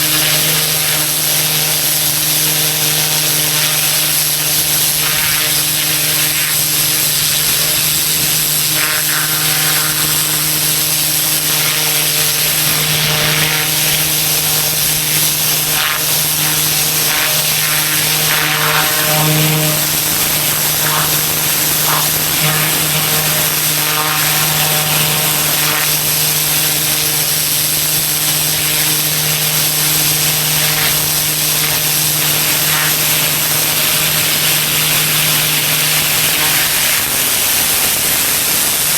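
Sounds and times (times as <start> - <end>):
high-pressure water spray hissing: 0.0 - 38.9
pressure washer engine droning: 0.0 - 38.9.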